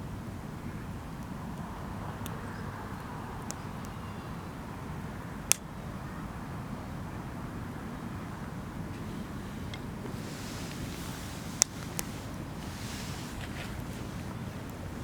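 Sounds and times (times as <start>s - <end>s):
steady low rumble: 0.0s - 15.0s
wood fire crackling: 0.0s - 15.0s.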